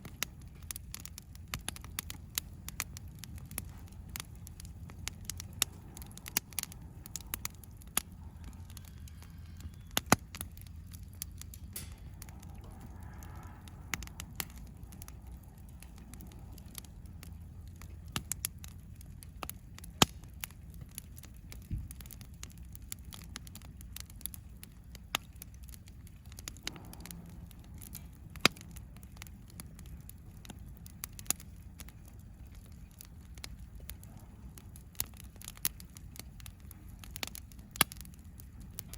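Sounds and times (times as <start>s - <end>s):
campfire crackling and popping: 0.0s - 38.9s
low background rumble: 0.0s - 38.9s.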